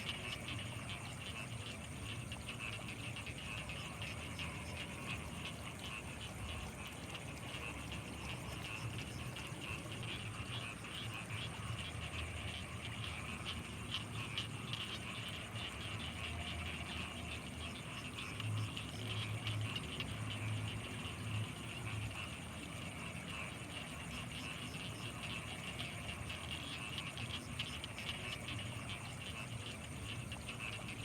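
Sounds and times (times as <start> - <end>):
frogs chirping and trilling: 0.0 - 31.0.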